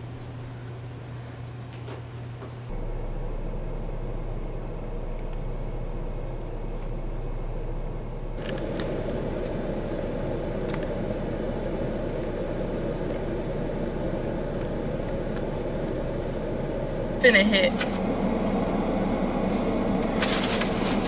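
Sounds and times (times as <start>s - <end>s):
car engine idling: 2.7s - 21.0s.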